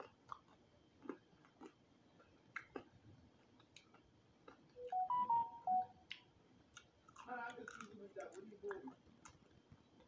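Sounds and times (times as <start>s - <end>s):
chewing crunchy food: 0.0s - 4.8s, 6.0s - 10.0s.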